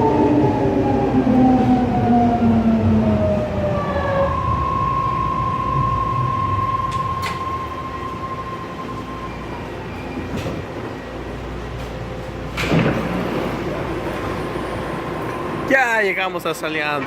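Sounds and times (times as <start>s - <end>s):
train cabin rumble: 0.0s - 15.8s.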